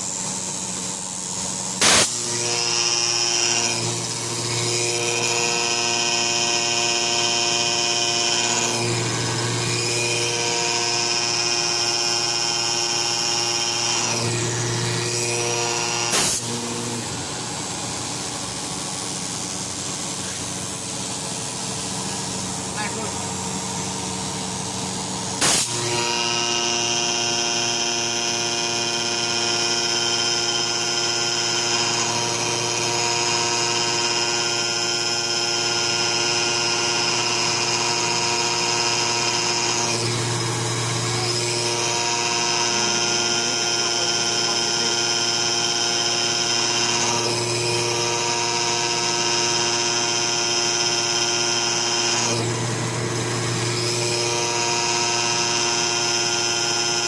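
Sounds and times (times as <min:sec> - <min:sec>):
pump motor whining and humming: 0:00.0 - 0:57.0.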